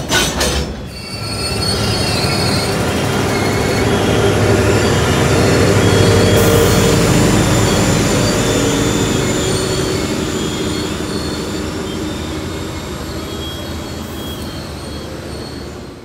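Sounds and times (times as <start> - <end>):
diesel locomotive engine rumble: 0.0 - 16.0
high-pitched wheel squeal: 0.8 - 16.0.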